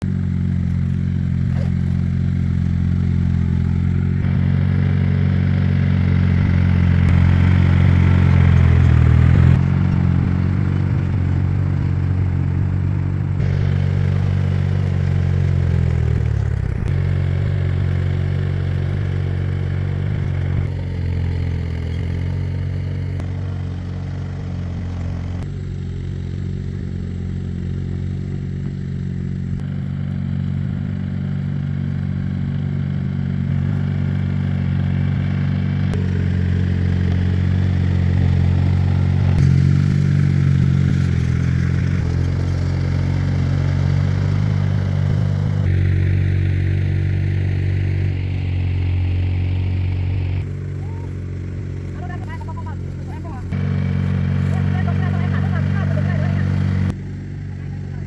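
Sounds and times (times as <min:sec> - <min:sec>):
farm machine engine clattering: 0:00.0 - 0:25.5, 0:33.6 - 0:58.0.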